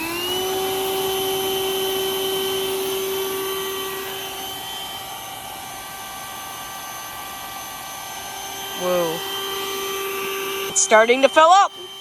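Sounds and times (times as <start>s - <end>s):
electric air pump whining: 0.0s - 12.0s.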